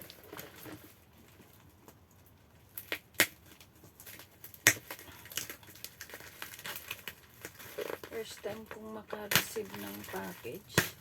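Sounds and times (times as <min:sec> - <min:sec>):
package wrapping crackling: 0:00.0 - 0:11.0.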